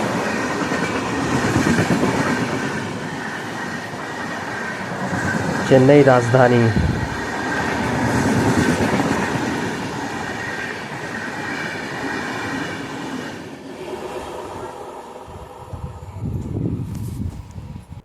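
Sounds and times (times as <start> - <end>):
train rushing past: 0.0 - 16.2.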